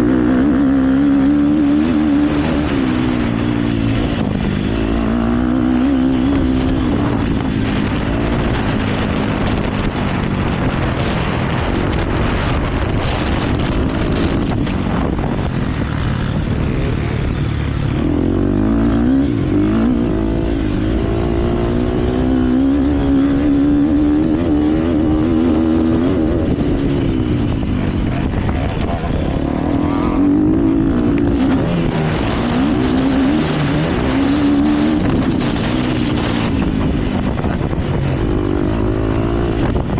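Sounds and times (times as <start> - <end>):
motocross bike engine revving: 0.0 - 39.9
steady rushing noise: 0.0 - 39.9.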